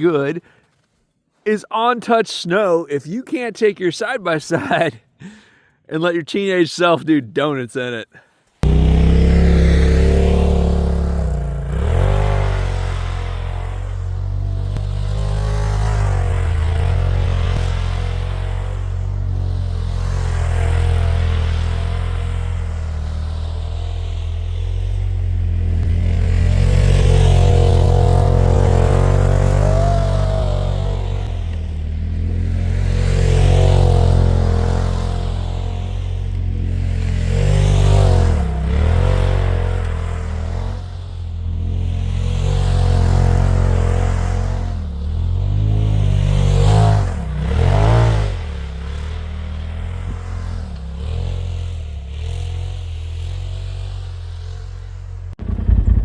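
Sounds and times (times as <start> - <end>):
off-road vehicle engine revving: 8.6 - 56.0.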